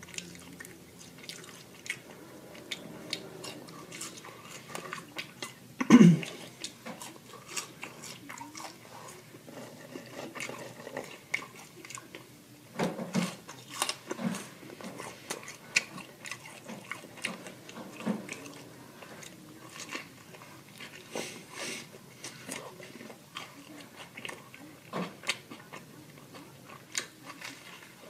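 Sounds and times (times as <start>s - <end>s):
biting and wet chewing: 0.0s - 28.0s.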